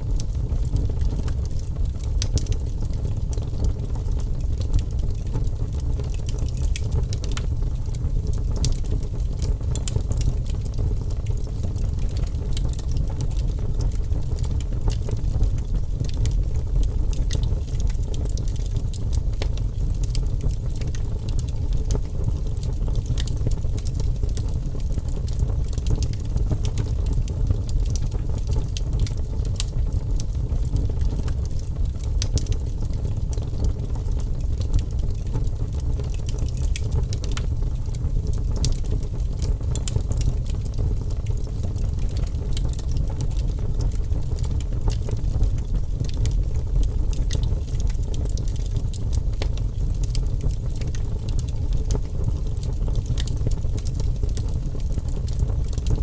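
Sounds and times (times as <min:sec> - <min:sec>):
fire crackling in fireplace: 0:00.0 - 0:56.0.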